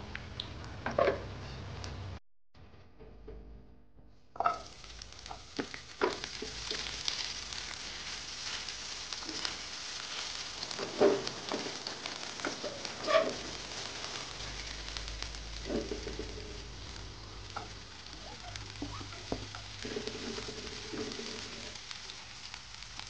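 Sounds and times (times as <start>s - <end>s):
food sizzling in hot oil: 4.4s - 23.0s.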